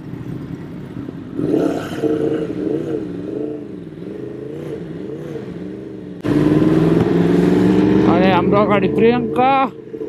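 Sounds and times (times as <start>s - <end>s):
motorcycle engine revving: 1.0s - 10.0s.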